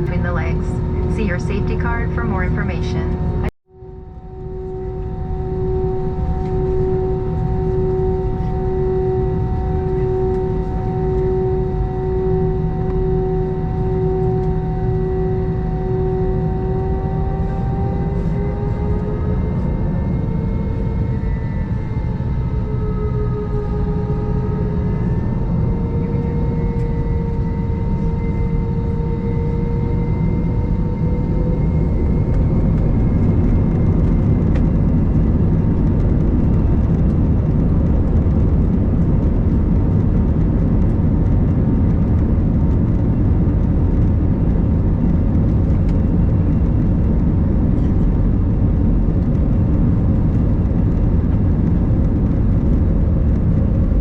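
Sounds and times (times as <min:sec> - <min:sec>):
faint engine whine: 0:00.0 - 0:54.0
jet engine rumble in cabin: 0:00.0 - 0:54.0.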